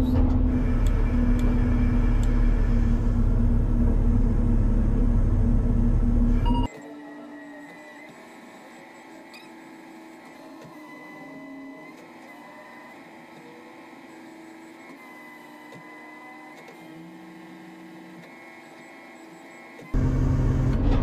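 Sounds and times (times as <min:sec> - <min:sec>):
crane machinery whining and humming: 0:00.0 - 0:21.0.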